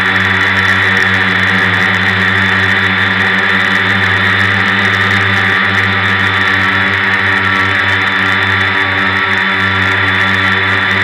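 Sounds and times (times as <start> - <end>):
drone motors and propellers whirring: 0.0 - 11.0.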